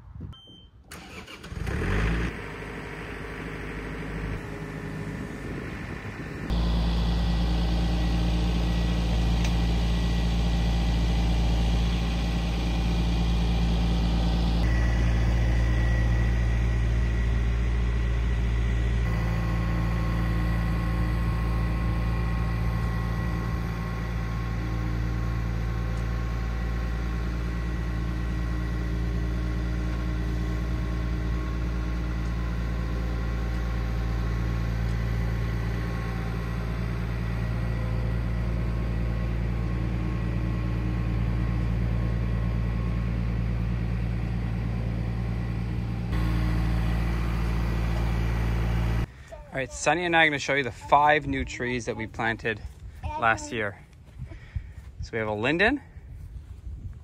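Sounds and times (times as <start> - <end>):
tractor diesel engine revving: 0.9 - 53.7.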